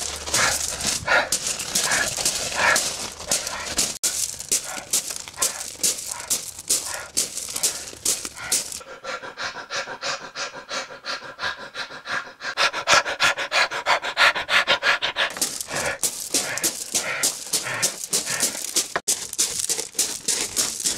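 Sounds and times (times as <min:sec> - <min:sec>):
person panting heavily: 0:00.0 - 0:20.9.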